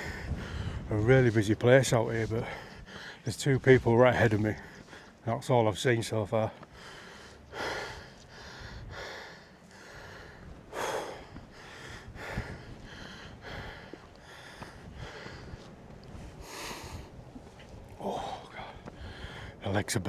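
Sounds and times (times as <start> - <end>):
man breathing heavily: 0.0 - 1.1, 2.2 - 3.3, 4.5 - 5.2, 6.5 - 19.6.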